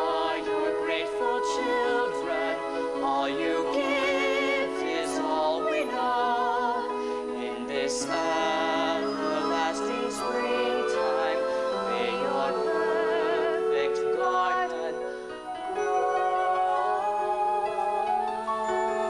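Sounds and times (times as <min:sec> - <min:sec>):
stage musical music: 0:00.0 - 0:19.0.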